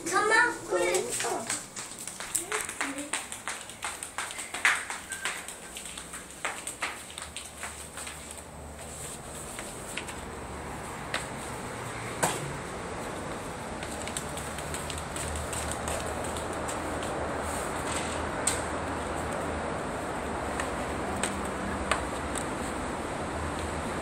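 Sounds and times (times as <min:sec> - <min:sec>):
footsteps on a tiled floor: 0:00.0 - 0:23.8
steady rushing noise: 0:00.0 - 0:24.0.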